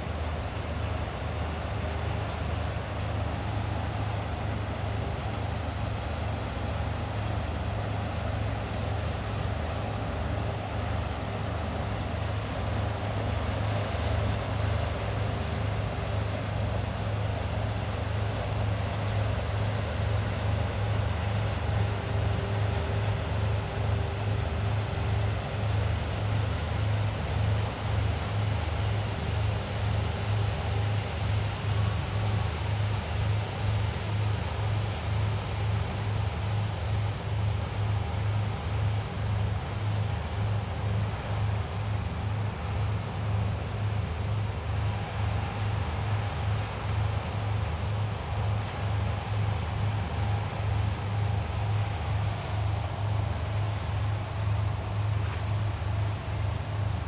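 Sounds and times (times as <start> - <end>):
boat diesel engines droning: 0.0 - 57.0.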